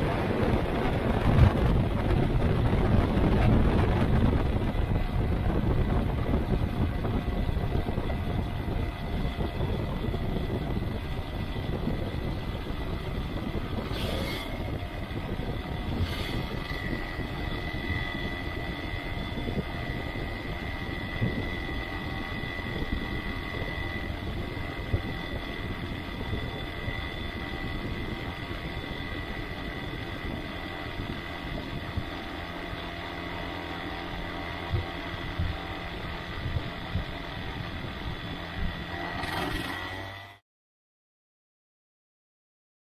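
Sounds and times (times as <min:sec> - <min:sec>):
small aircraft engine and propeller: 0:00.0 - 0:40.4.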